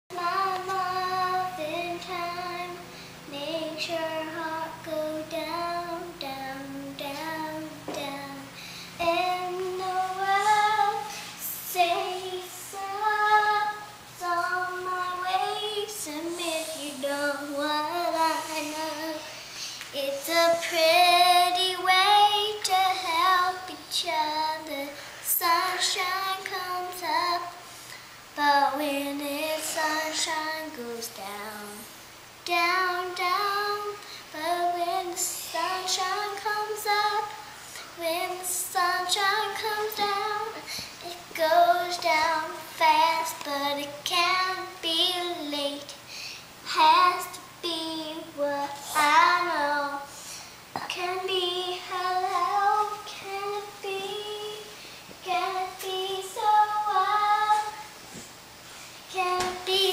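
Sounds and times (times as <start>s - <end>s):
young child singing: 0.1s - 27.7s, 28.3s - 58.0s, 59.1s - 59.9s.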